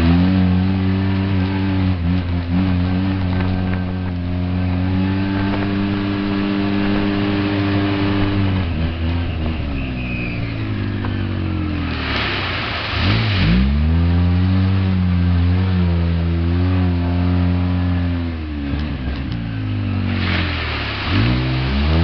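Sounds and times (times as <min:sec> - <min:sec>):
off-road vehicle engine revving: 0:00.0 - 0:22.0
splashing mud and water: 0:00.0 - 0:22.0.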